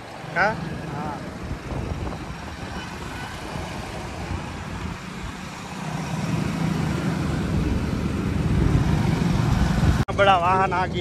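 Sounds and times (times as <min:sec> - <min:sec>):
city traffic: 0:00.0 - 0:11.0.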